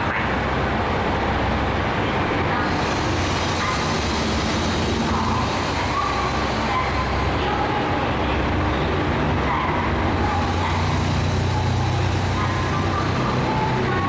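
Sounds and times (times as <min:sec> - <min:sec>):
diesel railcar engine humming: 0:00.0 - 0:14.0.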